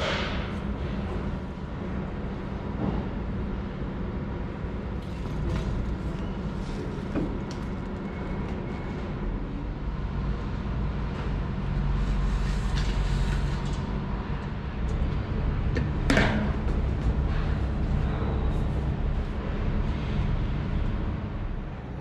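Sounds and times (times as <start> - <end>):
low machine rumble: 0.0 - 22.0.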